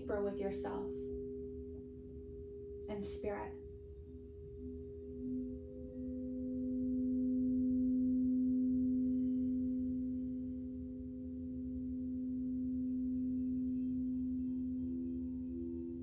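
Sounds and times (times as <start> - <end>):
drone of pure tones: 0.0 - 16.0
faint low hum: 0.0 - 16.0.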